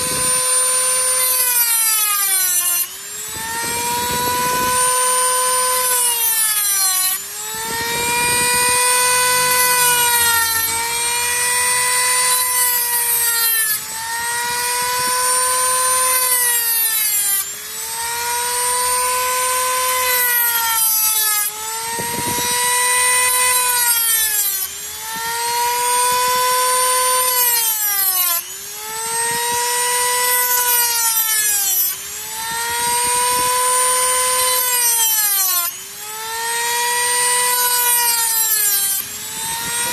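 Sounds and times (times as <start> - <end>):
rotary tool cutting metal: 0.0 - 39.9.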